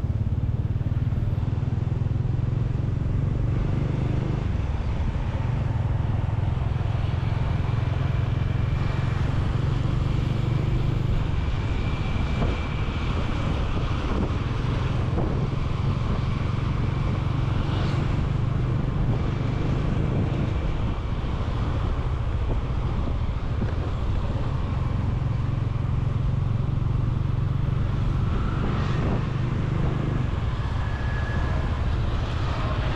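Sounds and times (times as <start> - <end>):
motorcycle engine running: 0.0 - 32.9
road and traffic noise: 0.0 - 32.9.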